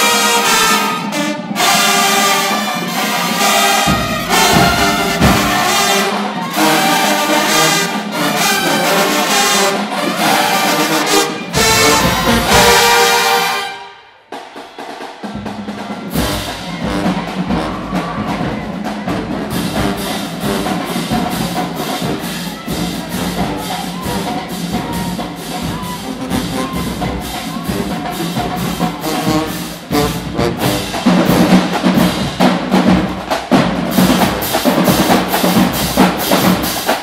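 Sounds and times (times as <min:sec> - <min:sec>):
drum section beat: 0:00.0 - 0:37.0
marching band playing: 0:00.0 - 0:37.0.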